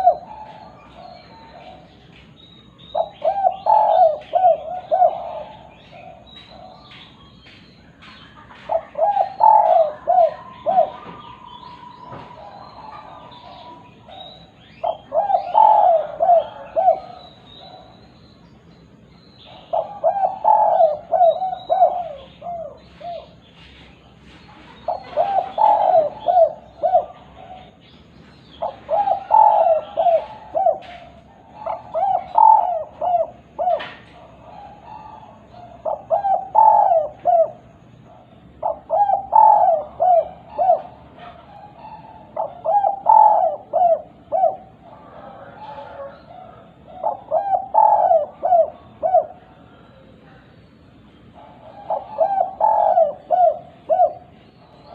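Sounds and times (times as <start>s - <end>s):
dove cooing: 0.0s - 18.2s, 19.4s - 27.8s, 28.5s - 54.9s.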